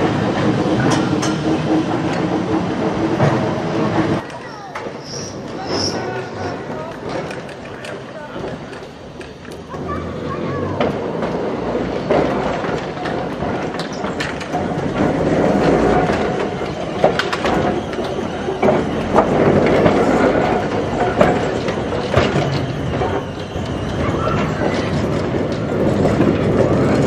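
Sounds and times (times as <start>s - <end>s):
tram wheels rumbling on track: 0.0s - 27.0s
wheels clicking over rail joints: 0.0s - 27.0s.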